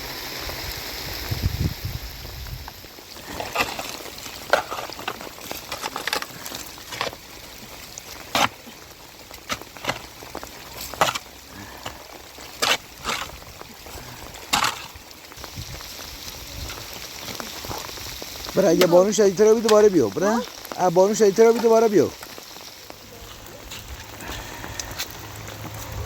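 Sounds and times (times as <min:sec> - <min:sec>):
rain falling: 0:00.0 - 0:26.0
raindrops tapping hard surface: 0:00.2 - 0:26.0.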